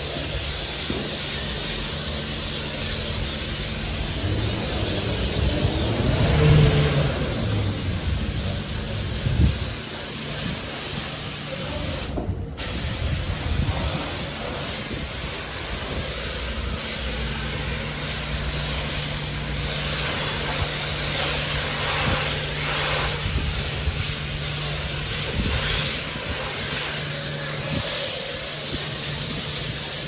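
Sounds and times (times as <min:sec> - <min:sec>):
steady low hum: 0:00.0 - 0:30.0
water jet spraying onto car: 0:00.0 - 0:30.0.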